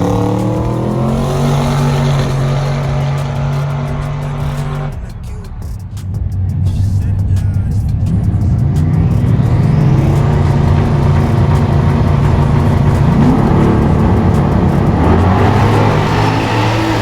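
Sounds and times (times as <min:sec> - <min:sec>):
truck engine running loud: 0:00.0 - 0:17.0.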